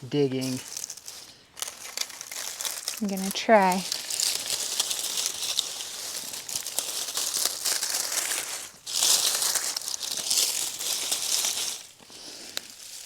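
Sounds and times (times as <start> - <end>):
crinkly rustling and crackles: 0.1 - 13.0.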